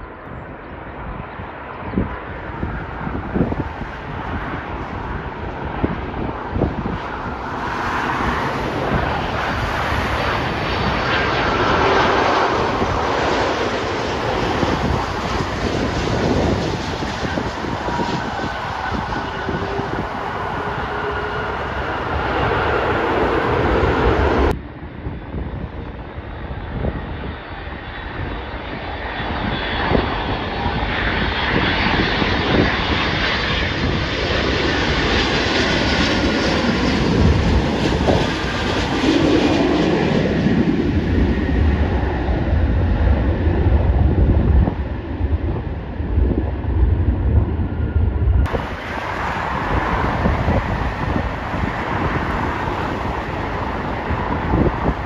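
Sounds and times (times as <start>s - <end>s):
airport noise: 0.0s - 55.0s
jet airliner passing overhead: 0.0s - 55.0s.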